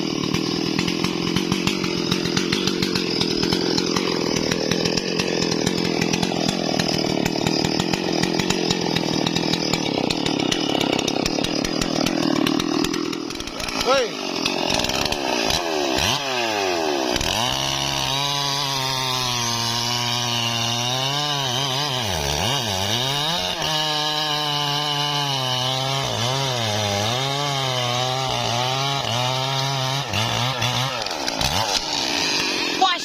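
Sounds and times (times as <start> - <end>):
chainsaw cutting tree trunk: 0.0 - 33.0.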